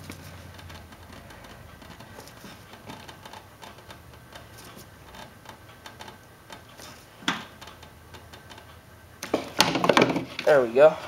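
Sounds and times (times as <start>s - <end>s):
clicks and knocks of hands working: 0.0s - 10.5s.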